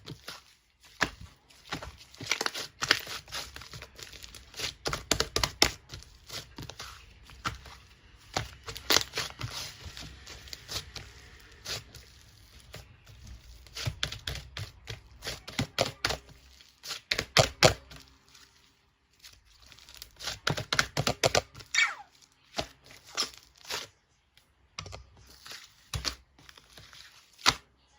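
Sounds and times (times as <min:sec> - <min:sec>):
paper or plastic crinkling: 0:00.0 - 0:24.0, 0:25.2 - 0:27.6.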